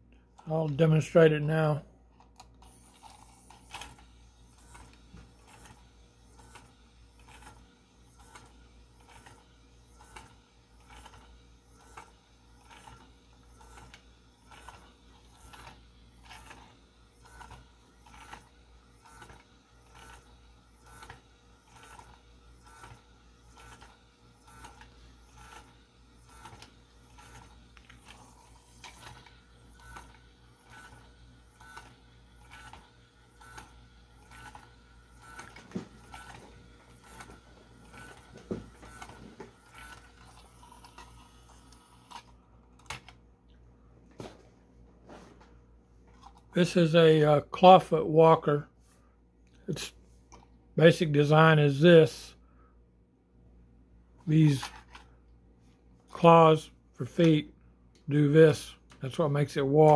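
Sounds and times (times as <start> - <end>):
faint motor whir: 0.1 - 52.8, 54.1 - 59.9.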